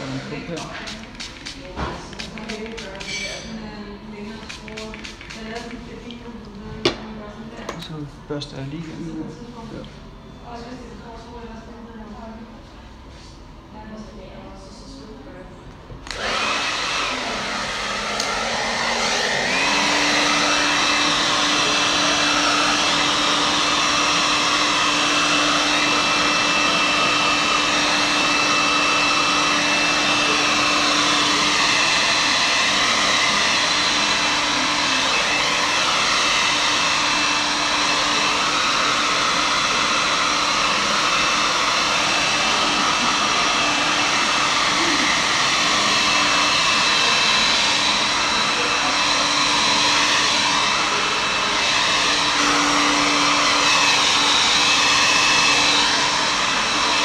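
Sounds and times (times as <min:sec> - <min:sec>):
hair dryer blowing: 0:00.0 - 0:08.0, 0:16.0 - 0:57.0.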